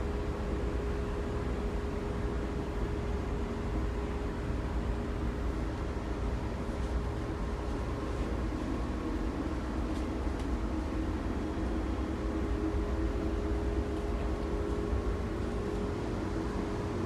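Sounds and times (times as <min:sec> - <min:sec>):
electric train low rumble: 0:00.0 - 0:17.0
faint steady hum: 0:00.0 - 0:17.0.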